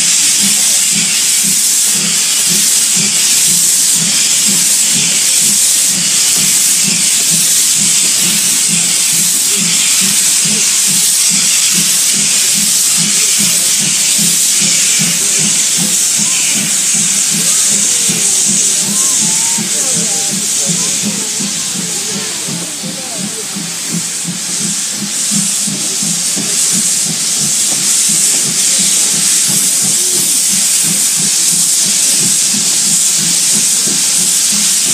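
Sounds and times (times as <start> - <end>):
steam locomotive hissing: 0.0 - 34.9.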